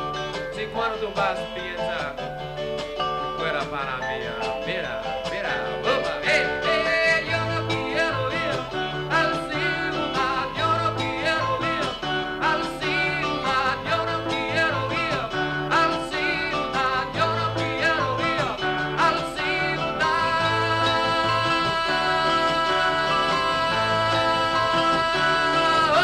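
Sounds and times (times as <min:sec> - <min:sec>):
bass line: 0:00.0 - 0:26.0
mallet keyboard: 0:00.0 - 0:26.0
strummed acoustic guitar: 0:00.0 - 0:26.0.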